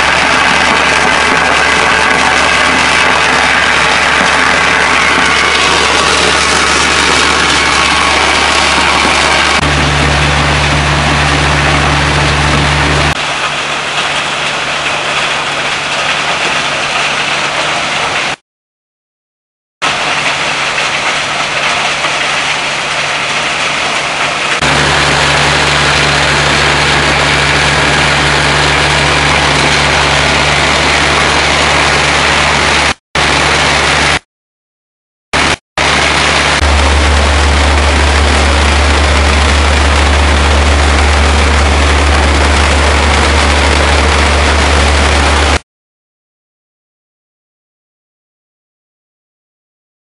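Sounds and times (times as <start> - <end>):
deep motor hum: 0.0 - 18.4, 19.8 - 34.2, 35.4 - 45.6
stone crusher mechanical din: 0.0 - 18.4, 19.8 - 34.2, 35.4 - 45.6.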